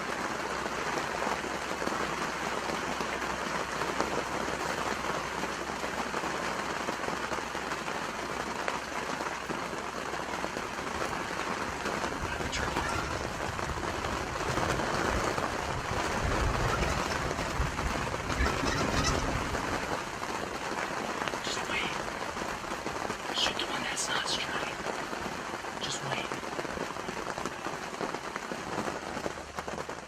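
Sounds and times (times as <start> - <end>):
rain falling on a surface: 0.0 - 30.0.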